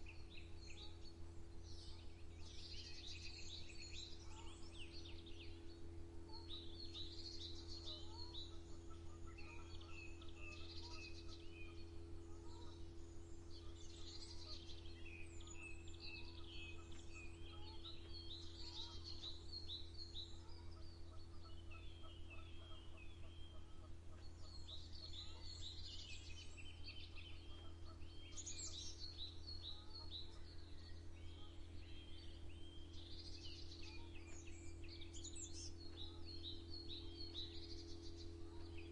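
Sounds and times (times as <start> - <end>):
songbirds chirping and trilling: 0.0 - 38.9
steady low hum: 0.0 - 38.9.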